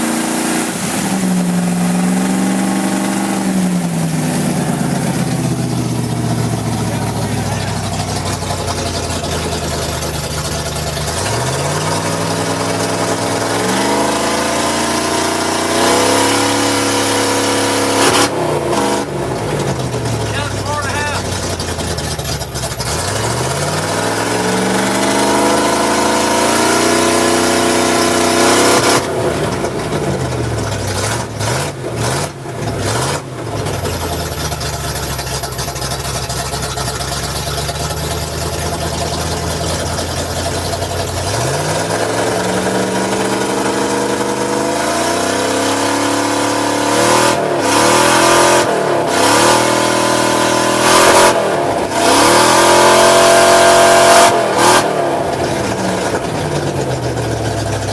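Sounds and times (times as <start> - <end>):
engine idling and revving: 0.0 - 57.9.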